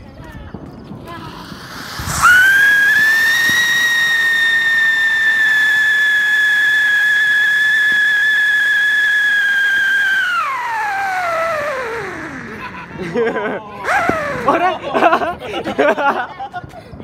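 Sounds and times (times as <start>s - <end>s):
whistling firework fountain: 0.0s - 16.0s.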